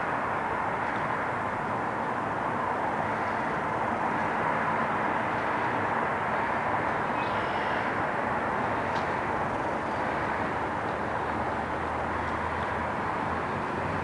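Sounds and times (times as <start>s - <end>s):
outdoor rushing noise: 0.0s - 14.0s.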